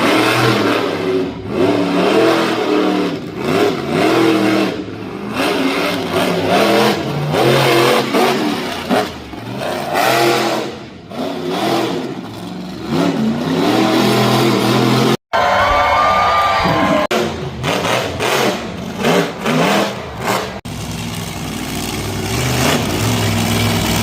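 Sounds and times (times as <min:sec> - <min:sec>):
truck engine revving hard: 0:00.0 - 0:15.2, 0:16.8 - 0:24.0.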